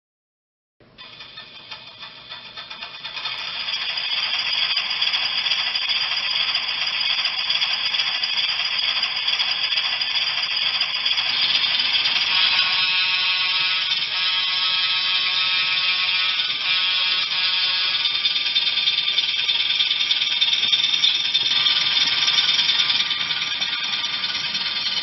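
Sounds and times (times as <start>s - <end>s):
model train wheels rattling: 1.0s - 25.0s.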